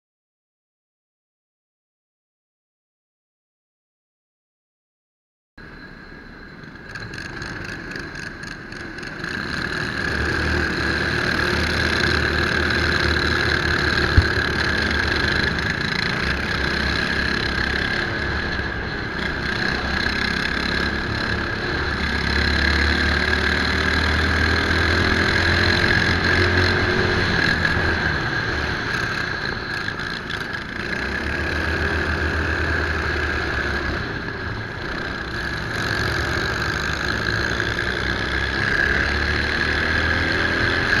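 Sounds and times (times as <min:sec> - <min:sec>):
racing kart engine revving: 0:07.0 - 0:41.0.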